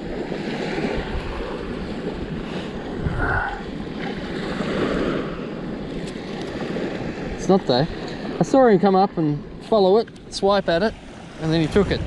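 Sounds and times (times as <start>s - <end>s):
small waves washing on beach: 0.0s - 12.0s
wind buffeting microphone: 0.0s - 12.0s.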